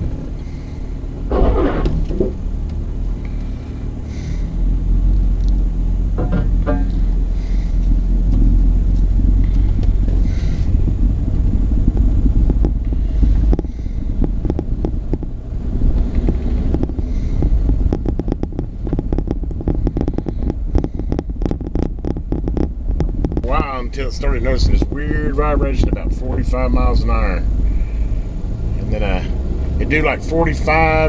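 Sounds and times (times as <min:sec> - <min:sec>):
engine and road rumble: 0:00.0 - 0:31.0
gravel crackling under tyres: 0:00.0 - 0:31.0.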